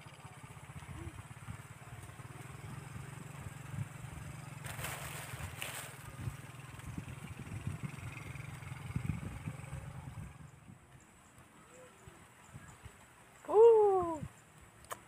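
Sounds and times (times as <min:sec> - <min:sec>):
small engine humming: 0:00.0 - 0:12.2
rustle: 0:00.0 - 0:15.0.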